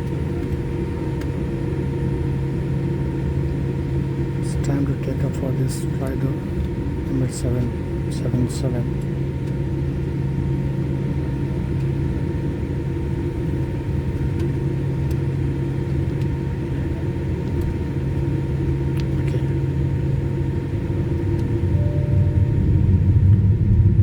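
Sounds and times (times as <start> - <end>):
airliner cabin hum and rumble: 0.0 - 24.0.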